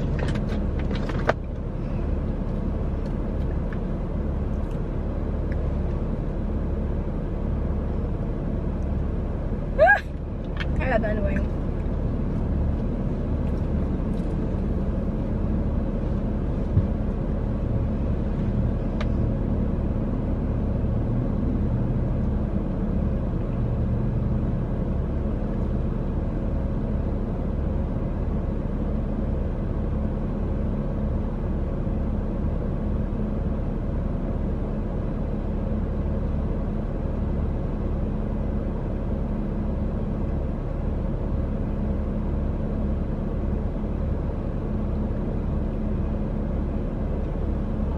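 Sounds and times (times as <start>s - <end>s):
car driving rumble: 0.0s - 47.9s.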